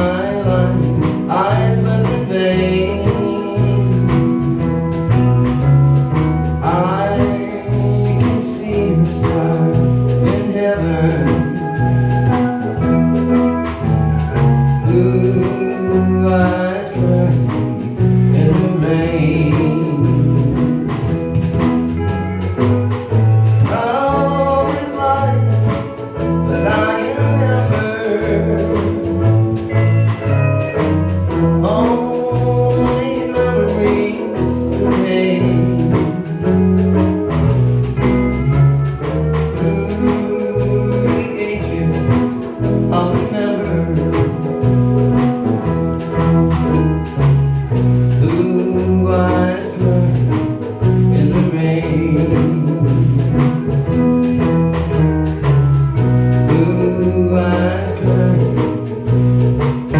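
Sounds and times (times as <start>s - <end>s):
electric bass: 0.0s - 59.9s
guitar: 0.0s - 59.9s
keyboard: 0.0s - 59.9s
pedal steel guitar: 0.0s - 59.9s.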